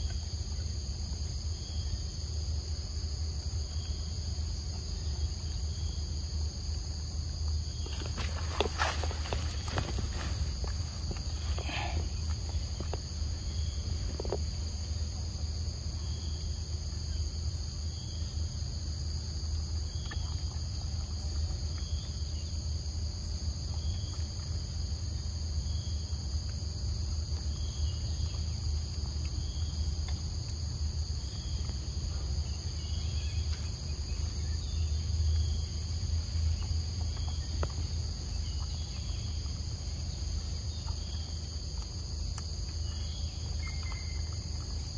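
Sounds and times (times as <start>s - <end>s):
insects buzzing: 0.0s - 44.9s.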